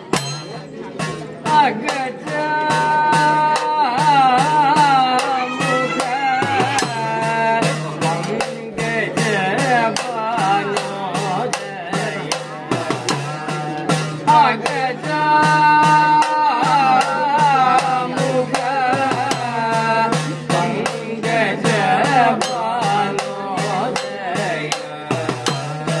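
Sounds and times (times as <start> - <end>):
man singing: 1.3 - 26.0.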